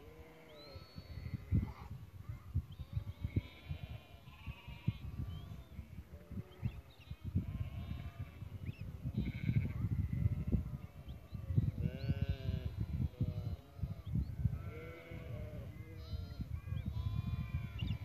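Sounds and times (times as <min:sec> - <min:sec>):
livestock bleating: 0:00.0 - 0:01.9, 0:02.8 - 0:18.0.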